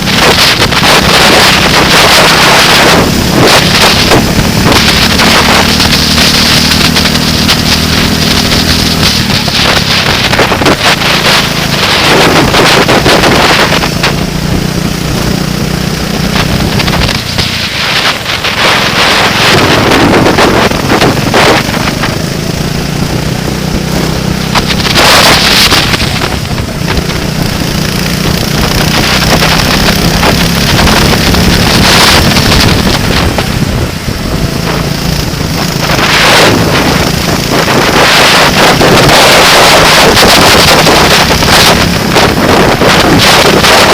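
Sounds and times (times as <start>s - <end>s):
vehicle engine running hard: 0.0s - 43.9s
wind buffeting microphone: 0.0s - 43.9s.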